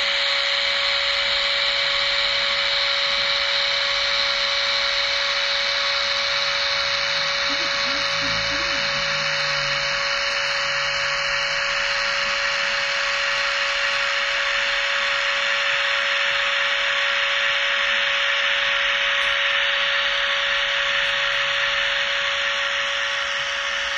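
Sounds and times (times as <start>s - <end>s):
model train running on track: 0.0s - 23.9s.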